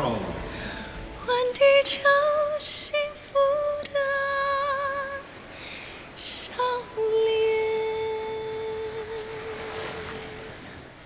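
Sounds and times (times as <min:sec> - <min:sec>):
woman singing slow song: 0:00.4 - 0:10.9.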